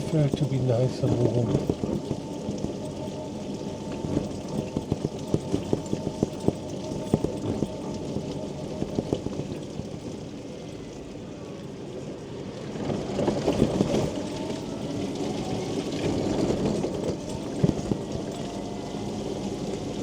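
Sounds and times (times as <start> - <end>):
faint motor whine: 0.0 - 20.0
raindrops ticking on canopy: 0.0 - 20.0.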